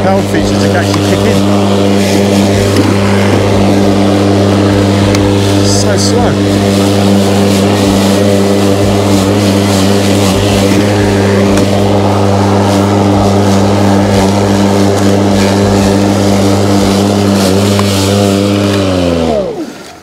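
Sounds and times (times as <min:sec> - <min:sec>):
lawn mower humming: 0:00.0 - 0:20.0.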